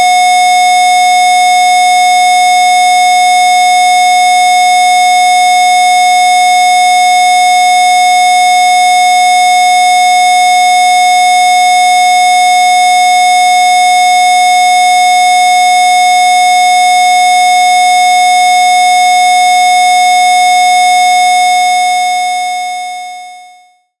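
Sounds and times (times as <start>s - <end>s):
steady electronic sine tone: 0.0s - 24.0s.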